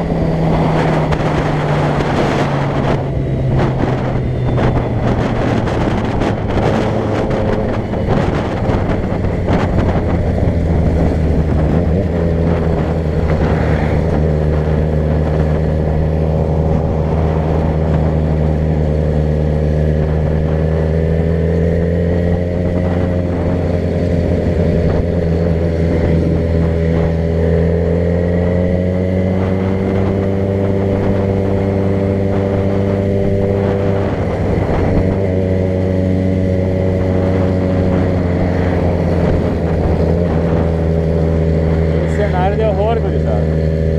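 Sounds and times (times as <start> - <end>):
car engine running: 0.0 - 43.9
road noise: 0.0 - 43.9.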